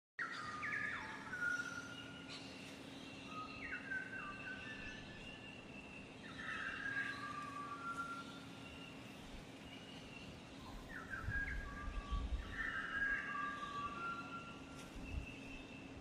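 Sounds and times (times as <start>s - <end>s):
thin drawn-out bird calls: 0.2s - 16.0s.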